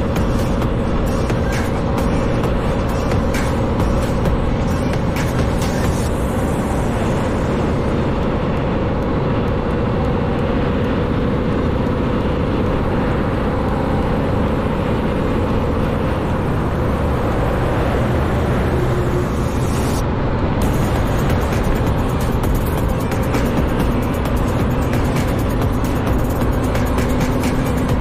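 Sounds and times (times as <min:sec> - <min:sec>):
road noise: 0:00.0 - 0:28.0
truck engine drone: 0:00.0 - 0:28.0.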